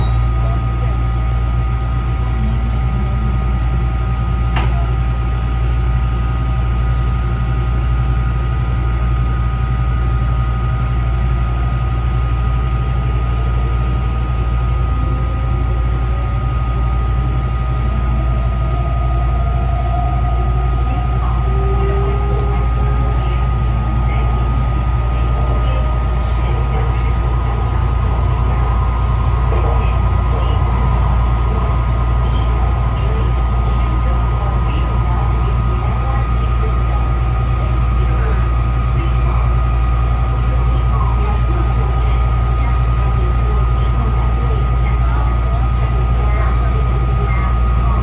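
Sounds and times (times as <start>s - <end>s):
metro train rumble and hum: 0.0s - 48.0s.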